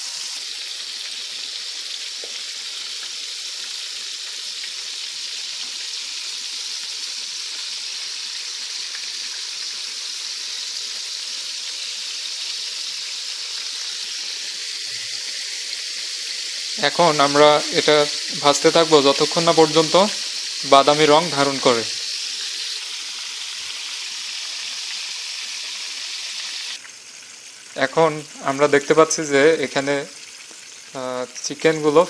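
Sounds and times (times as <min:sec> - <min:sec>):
chicken sizzling in hot oil: 0:00.0 - 0:32.0.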